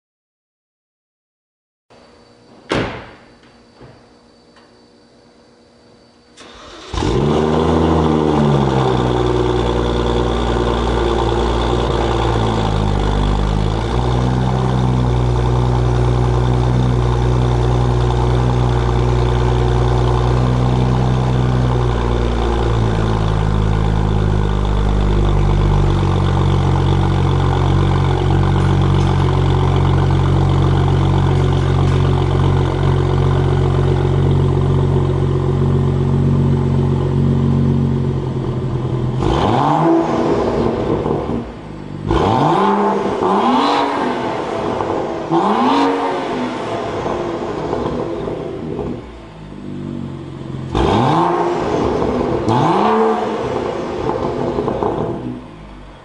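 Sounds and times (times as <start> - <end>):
car engine starting and idling: 6.4 - 56.0.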